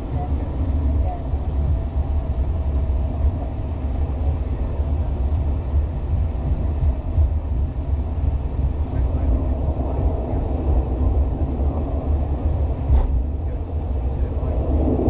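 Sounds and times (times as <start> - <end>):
turboprop cabin rumble: 0.0 - 15.0.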